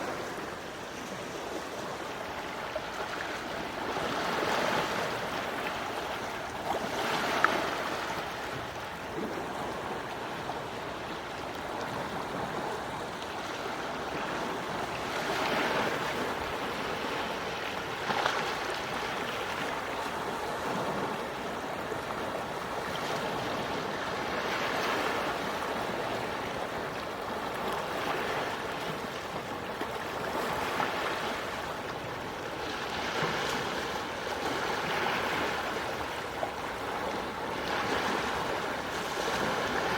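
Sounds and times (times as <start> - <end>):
small waves washing onto shore: 0.0 - 39.9.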